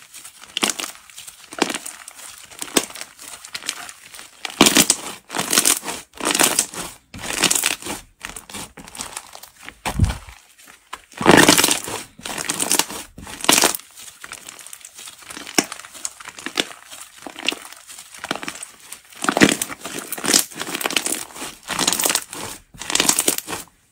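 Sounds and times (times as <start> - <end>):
slime crackling and popping: 0.0 - 23.9.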